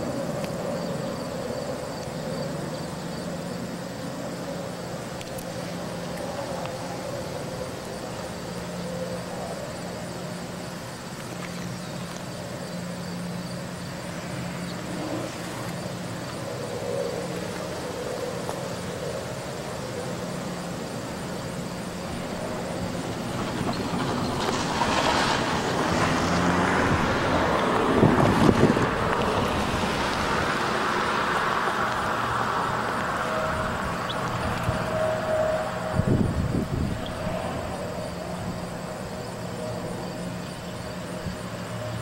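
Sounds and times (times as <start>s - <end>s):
diesel locomotive engine drone: 0.0s - 42.0s
train rumble: 0.0s - 42.0s.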